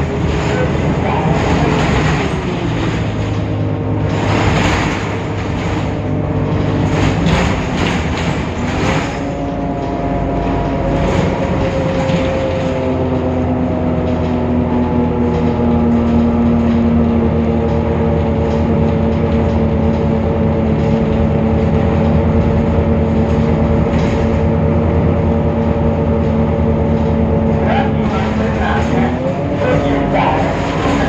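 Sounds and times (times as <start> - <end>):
bus diesel engine rumble: 0.0 - 31.0
gearbox whine: 0.0 - 31.0.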